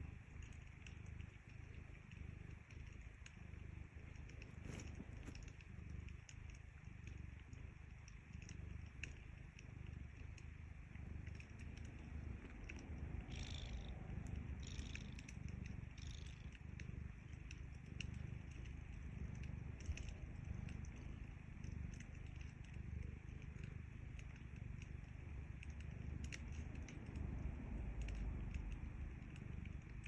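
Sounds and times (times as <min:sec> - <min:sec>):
cat purring: 0:00.0 - 0:30.0
wood fire crackles: 0:02.6 - 0:30.0.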